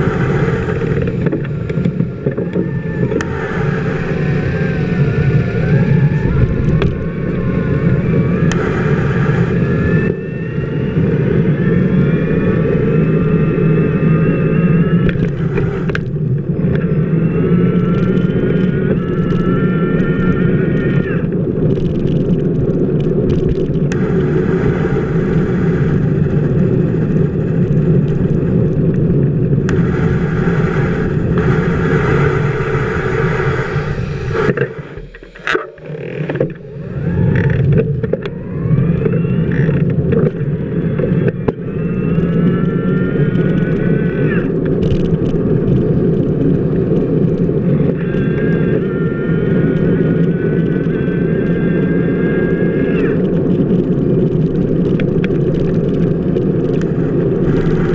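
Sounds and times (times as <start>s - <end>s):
bicycle wheel rumbling on pavement: 0.0s - 57.9s
rising whine: 0.0s - 57.9s.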